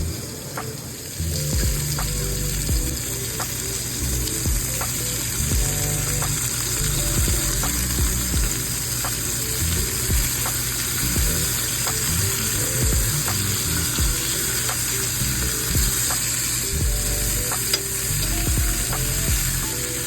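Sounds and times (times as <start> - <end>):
background music with beat: 0.0 - 20.0
food sizzling in oil: 0.0 - 20.0.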